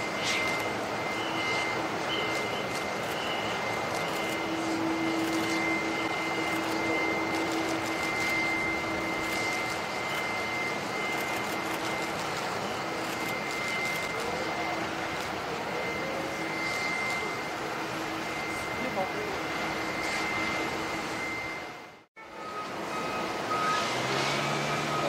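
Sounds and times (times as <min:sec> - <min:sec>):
jet engines rushing and whining: 0:00.0 - 0:25.0.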